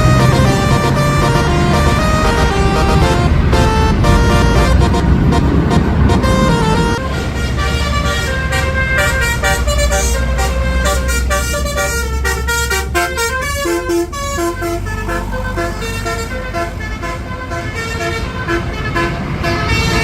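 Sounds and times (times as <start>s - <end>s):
bus engine rumbling: 0.0s - 20.0s
multi-tone bus horn melody: 0.0s - 20.0s.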